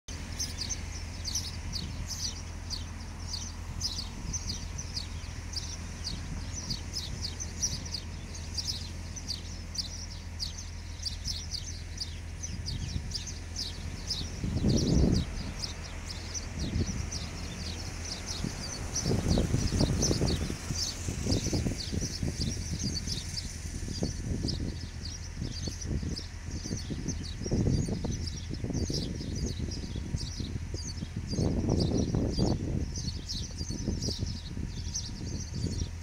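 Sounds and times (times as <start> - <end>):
small birds chirping: 0.0 - 36.0
steady low hum: 0.1 - 36.0.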